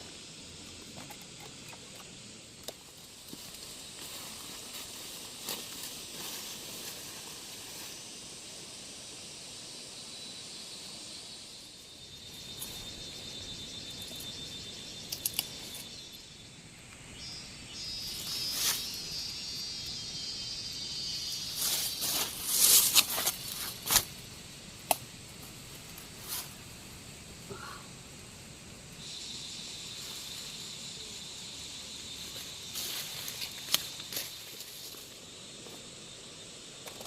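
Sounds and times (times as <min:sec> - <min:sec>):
insects trilling: 0:00.0 - 0:37.0
outdoor ambience hiss: 0:00.0 - 0:37.0.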